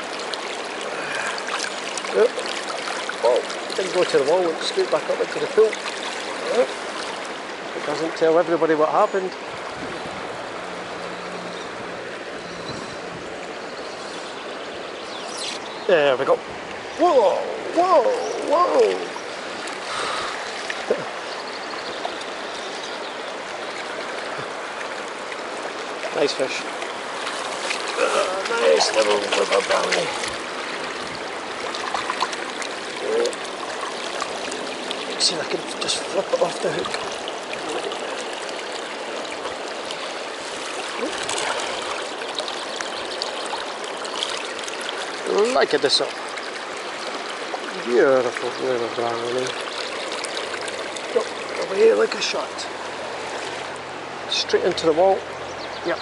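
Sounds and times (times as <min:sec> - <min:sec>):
stream flowing over gravel: 0:00.0 - 0:56.0.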